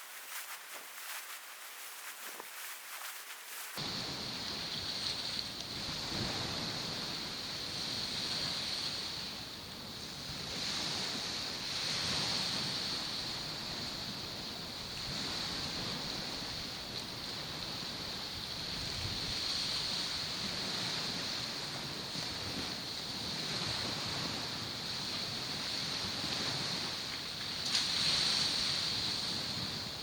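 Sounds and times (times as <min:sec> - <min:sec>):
waves washing on shore: 0:00.0 - 0:30.0.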